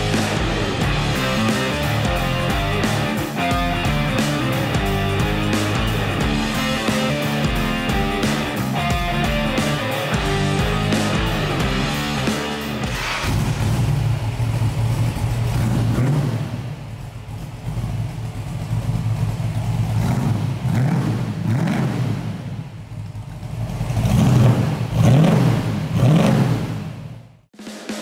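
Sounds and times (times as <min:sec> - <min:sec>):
car engine idling and revving: 0:00.0 - 0:27.5.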